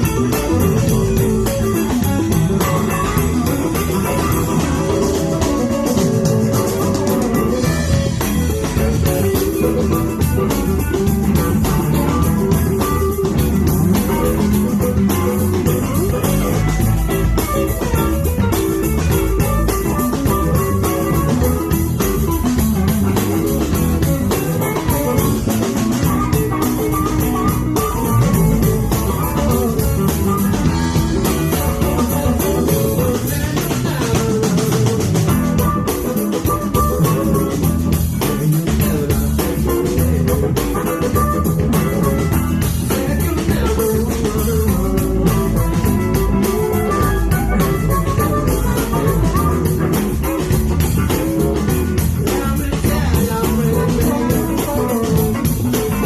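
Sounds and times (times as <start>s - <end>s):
blues band playing: 0.0s - 56.0s.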